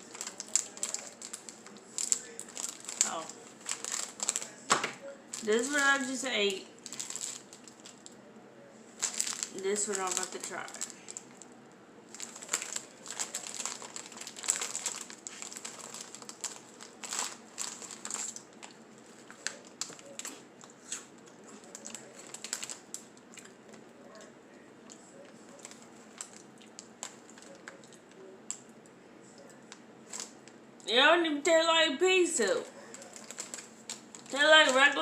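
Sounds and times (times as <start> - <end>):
snack packet crinkling: 0.0 - 8.2, 9.0 - 28.7, 29.4 - 30.6, 32.6 - 35.0
crackers being crunched: 0.0 - 8.3, 8.9 - 30.6, 32.6 - 35.0.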